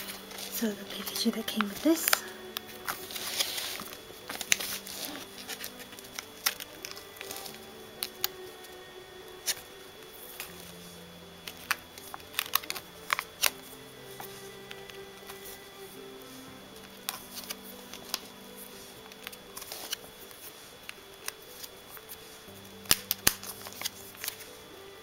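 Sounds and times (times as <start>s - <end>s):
plastic binder sleeves crinkling: 0.0s - 8.8s, 9.4s - 24.6s
soft background music: 0.0s - 25.0s.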